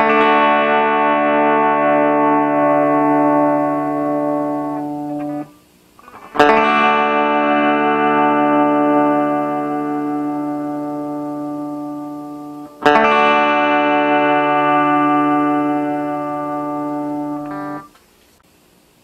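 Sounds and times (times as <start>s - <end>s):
electric guitar chord strummed: 0.0s - 18.0s.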